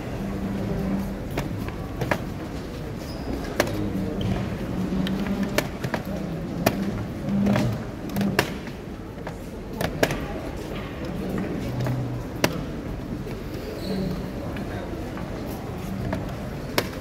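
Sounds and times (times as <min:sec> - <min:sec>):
murmur of voices: 0:00.0 - 0:17.0.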